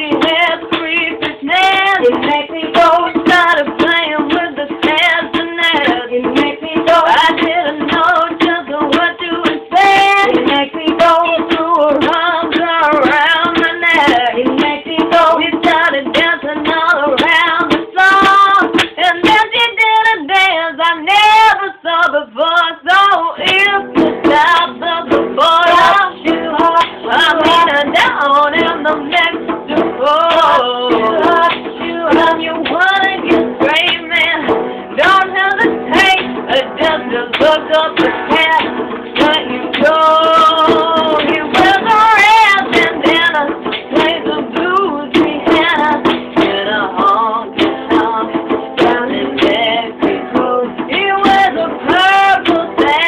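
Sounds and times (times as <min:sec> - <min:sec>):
guitar accompaniment: 0:00.0 - 0:53.0
woman and man singing together: 0:00.0 - 0:53.0.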